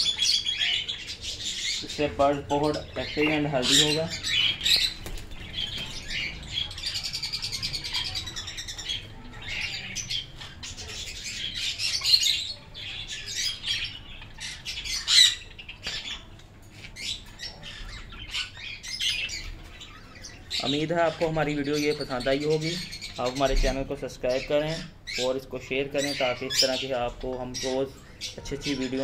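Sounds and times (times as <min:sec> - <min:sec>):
parakeets squawking and chirping: 0:00.0 - 0:29.0.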